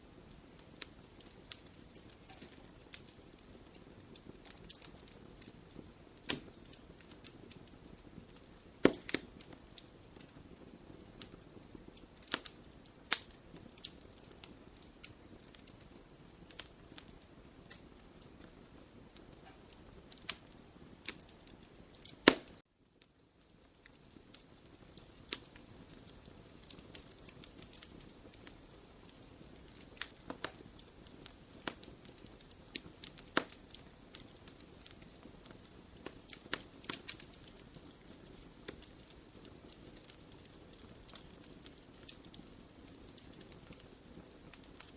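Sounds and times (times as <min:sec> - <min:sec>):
fire crackling and popping: 0:00.0 - 0:44.9
low steady hiss: 0:00.0 - 0:44.9.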